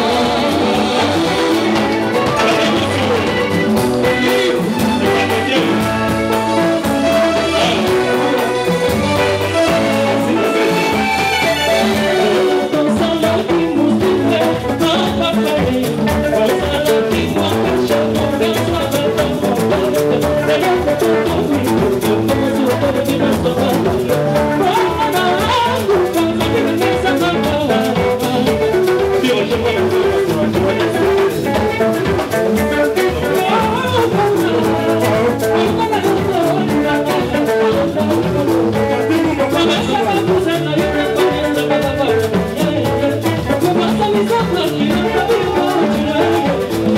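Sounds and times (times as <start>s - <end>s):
drums beating: 0.0s - 46.9s
electric guitar: 0.0s - 46.9s
live dance-band music: 0.0s - 46.9s
person singing into microphone: 0.0s - 46.9s.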